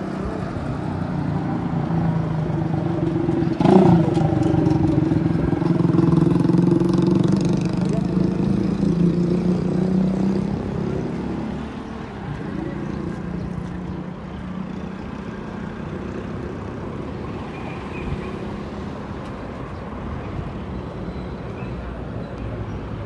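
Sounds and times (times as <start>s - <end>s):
engine hum: 0.0s - 23.0s
street traffic noise: 0.0s - 23.0s.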